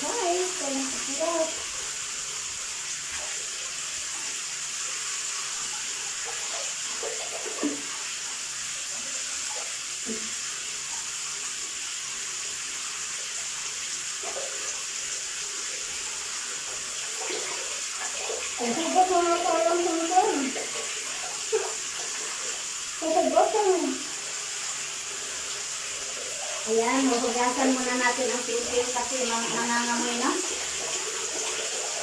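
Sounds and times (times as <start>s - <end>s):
water running in a bathroom: 0.0s - 32.0s.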